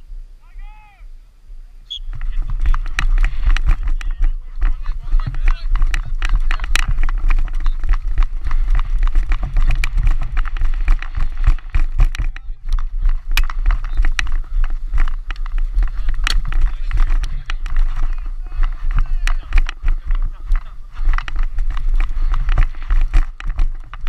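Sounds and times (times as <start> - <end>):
wind buffeting microphone: 1.2 - 24.0
thuds and rattles of running player: 2.1 - 24.0.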